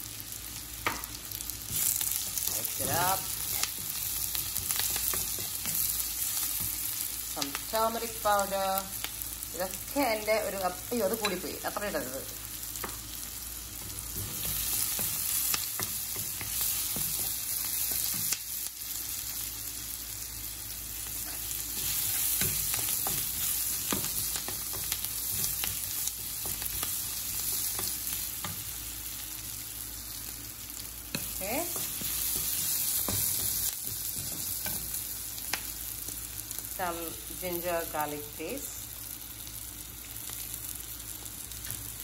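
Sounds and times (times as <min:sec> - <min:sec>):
onions sizzling in hot oil: 0:00.0 - 0:42.0.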